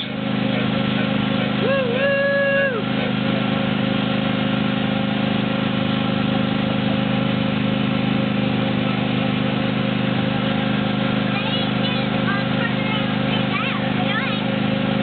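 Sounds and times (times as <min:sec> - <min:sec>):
train ride engine droning: 0:00.0 - 0:15.0.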